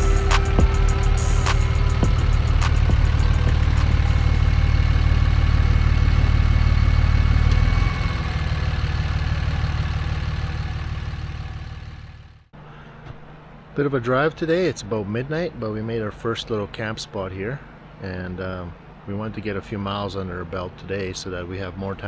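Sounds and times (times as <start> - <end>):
pickup engine running: 0.0 - 22.0.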